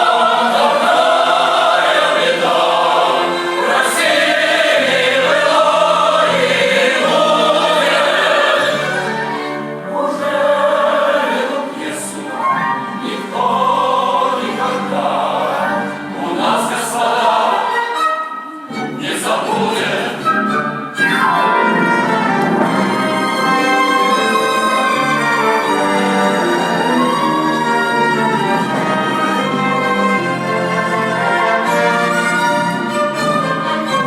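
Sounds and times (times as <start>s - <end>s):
choir singing classical music: 0.0s - 34.0s.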